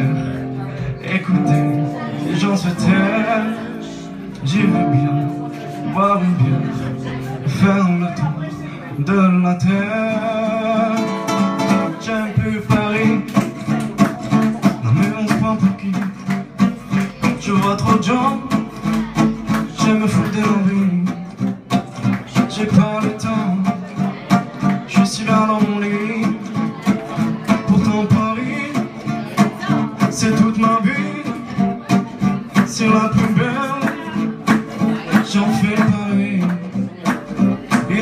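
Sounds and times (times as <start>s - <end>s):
acoustic guitar strummed: 0.0s - 38.0s
man singing: 0.0s - 38.0s.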